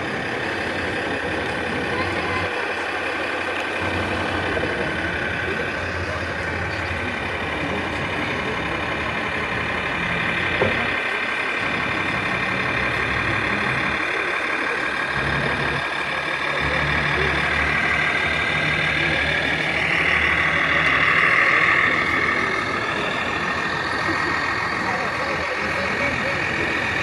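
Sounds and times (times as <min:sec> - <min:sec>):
toy truck engine: 0:00.0 - 0:27.0.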